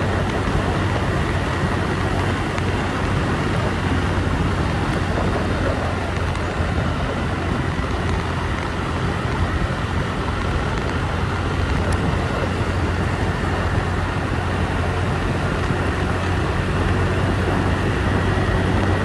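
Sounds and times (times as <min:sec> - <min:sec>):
motorbike engine humming: 0:00.0 - 0:19.0
road and traffic noise: 0:00.0 - 0:19.0.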